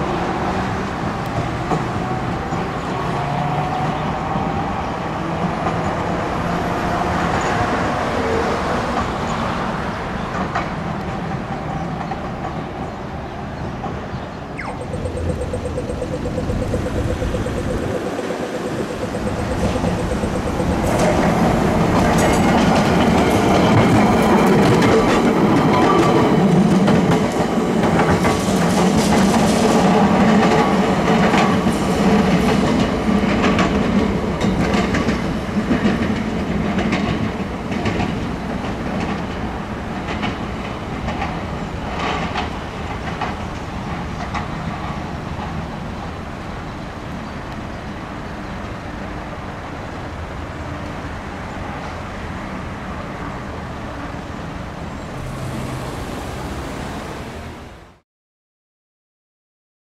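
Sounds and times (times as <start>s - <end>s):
tram rumbling on rails: 0.0s - 58.0s.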